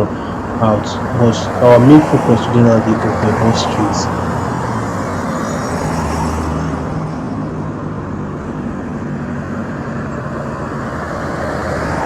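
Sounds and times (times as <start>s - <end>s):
outdoor street noise: 0.0s - 12.0s.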